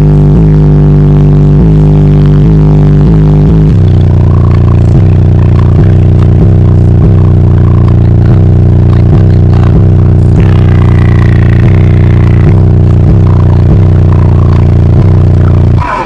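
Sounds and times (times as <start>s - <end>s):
distorted bass-heavy music: 0.0s - 16.0s.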